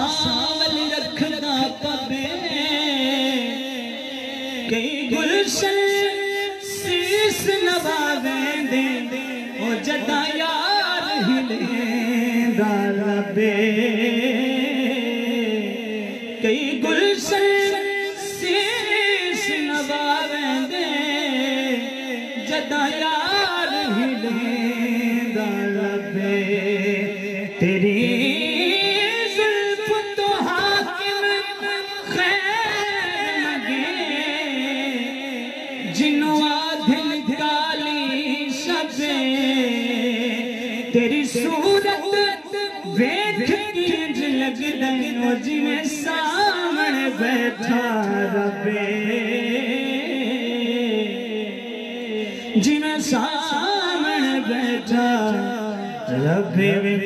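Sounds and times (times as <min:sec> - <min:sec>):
man singing through microphone: 0:00.0 - 0:57.0.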